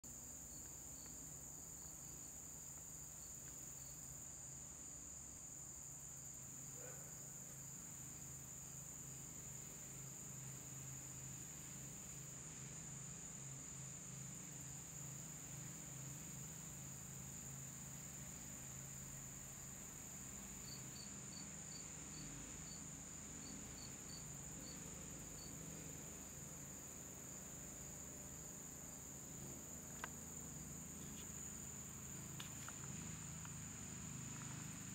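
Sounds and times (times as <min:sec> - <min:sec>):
high-pitched insect trill: 0:00.1 - 0:34.9.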